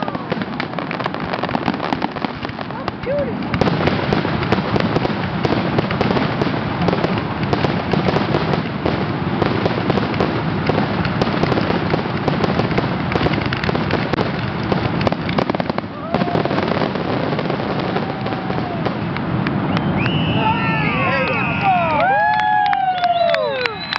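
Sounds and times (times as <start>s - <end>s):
fireworks bursting and crackling: 0.0s - 23.9s.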